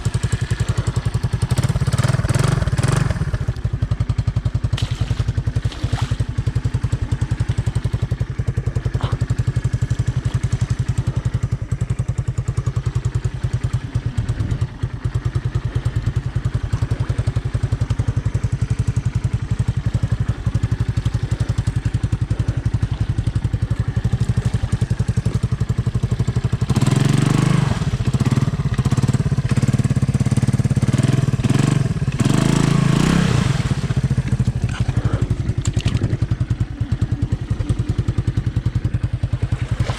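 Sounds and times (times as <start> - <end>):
single-cylinder engine revving: 0.0 - 39.9.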